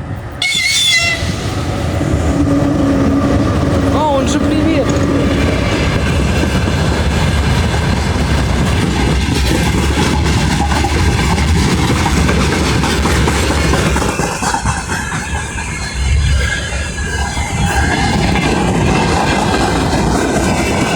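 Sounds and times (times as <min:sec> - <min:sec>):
freight train rumbling past: 0:00.0 - 0:20.9
wheels clacking over rail joints: 0:00.1 - 0:20.9.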